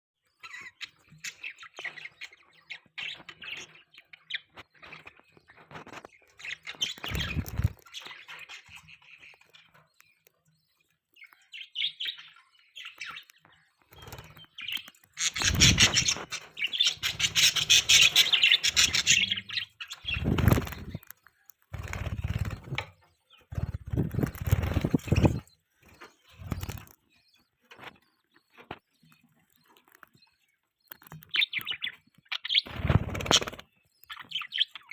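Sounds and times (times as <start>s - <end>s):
budgerigars chirping: 0.3s - 34.9s.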